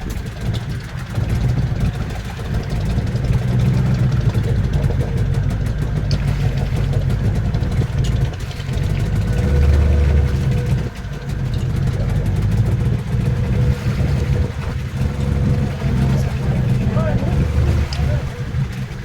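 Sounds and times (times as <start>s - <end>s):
boat engine humming: 0.0s - 19.0s.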